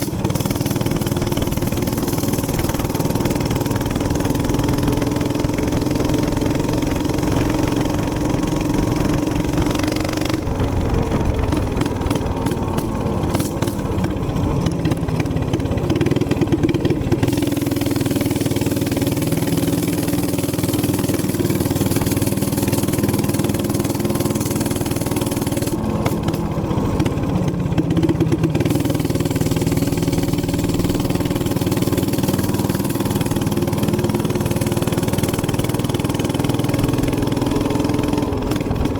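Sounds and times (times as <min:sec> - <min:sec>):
minibike engine running: 0:00.0 - 0:38.9.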